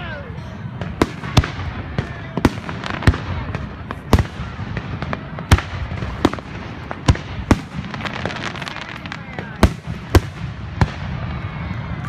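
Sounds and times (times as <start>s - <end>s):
fireworks bangs: 0.7s - 12.0s
small fireworks pops: 0.7s - 12.0s.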